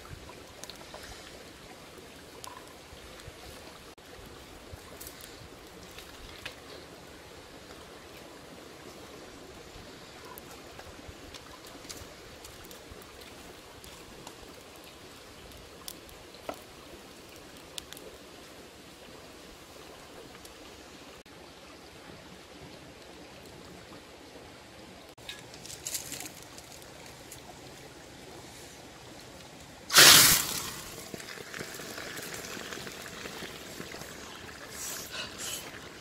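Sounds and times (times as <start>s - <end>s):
stream running over stones: 0.0s - 36.0s.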